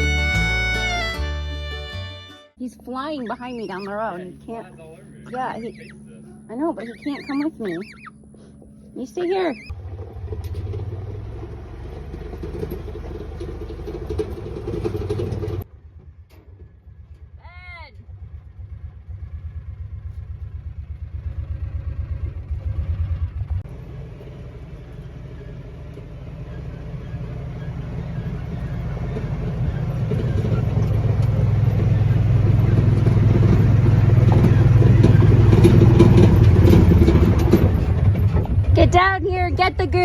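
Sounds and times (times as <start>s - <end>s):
vehicle engine driving: 0.0s - 40.0s.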